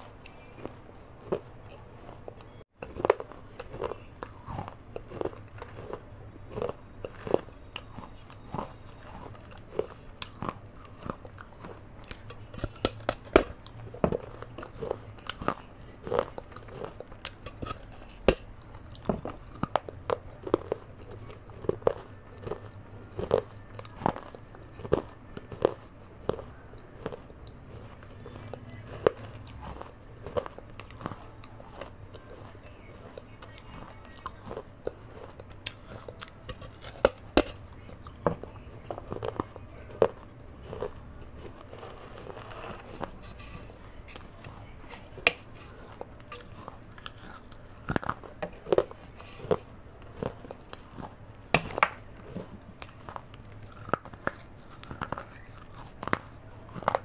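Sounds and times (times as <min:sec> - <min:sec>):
clay pot crunching between teeth: 0:00.0 - 0:57.0.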